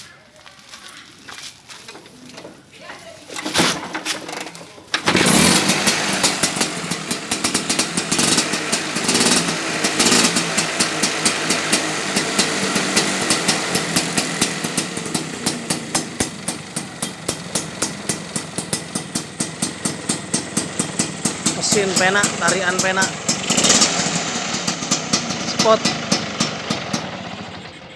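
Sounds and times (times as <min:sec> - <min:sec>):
scooter engine idling with pops: 0:03.4 - 0:27.9
ringing exhaust note: 0:05.1 - 0:27.9.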